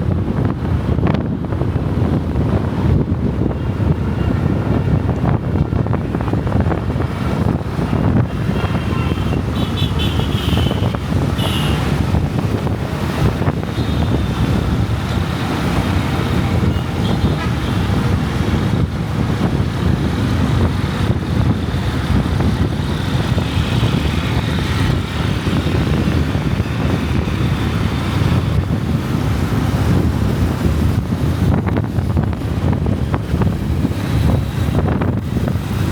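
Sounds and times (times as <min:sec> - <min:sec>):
motorcycle engine rumble: 0:00.0 - 0:35.9
wind on microphone: 0:00.0 - 0:35.9.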